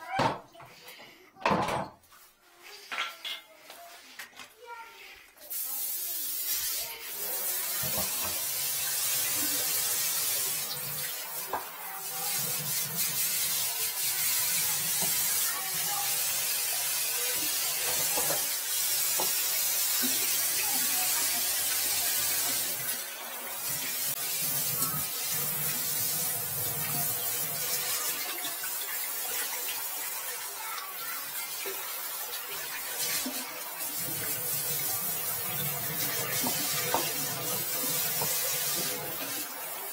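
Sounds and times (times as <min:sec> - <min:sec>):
water spraying from shower head: 0:05.4 - 0:39.9.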